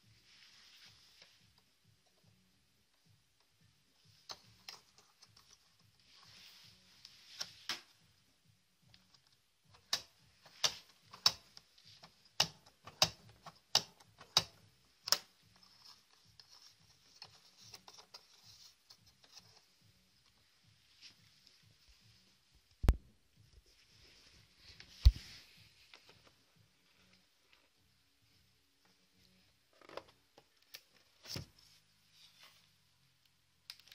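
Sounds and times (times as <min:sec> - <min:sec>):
faint steady hiss: 0:00.0 - 0:33.9.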